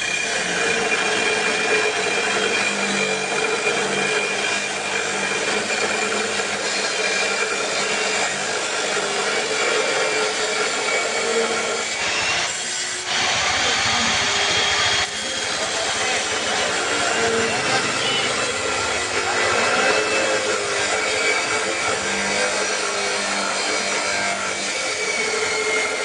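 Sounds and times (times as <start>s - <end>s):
electric cutting machine whining: 0.0s - 26.0s.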